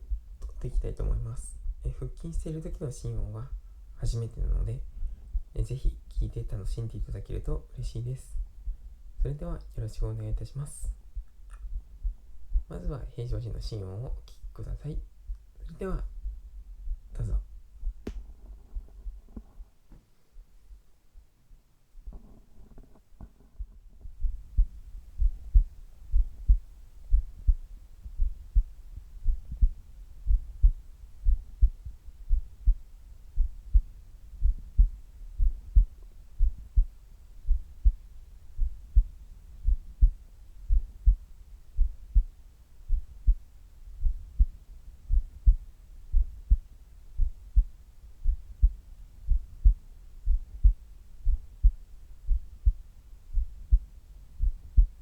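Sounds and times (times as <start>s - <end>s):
heartbeat thumps: 0.0s - 19.6s, 23.2s - 55.0s.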